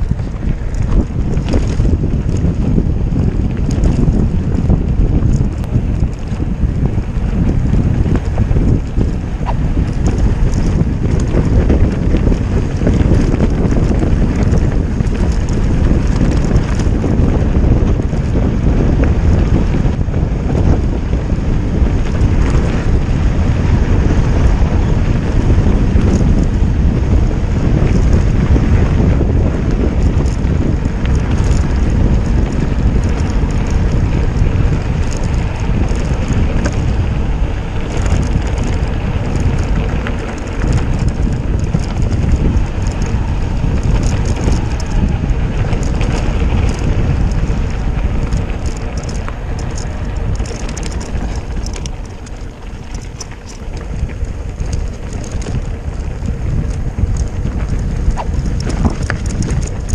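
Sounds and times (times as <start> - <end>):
tyres crunching over gravel: 0.0 - 59.9
wind buffeting microphone: 0.0 - 59.9.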